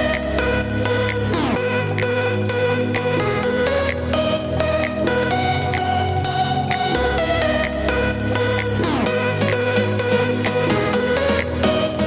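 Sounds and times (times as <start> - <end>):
held synth notes: 0.0 - 12.0
hi-hat ticks: 1.1 - 4.2, 4.8 - 11.7.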